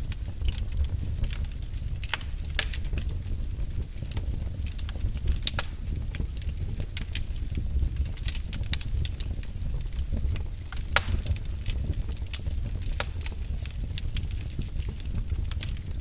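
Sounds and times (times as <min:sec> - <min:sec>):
low rumble of fire flames: 0:00.0 - 0:16.0
wood fire crackles and pops: 0:00.0 - 0:16.0.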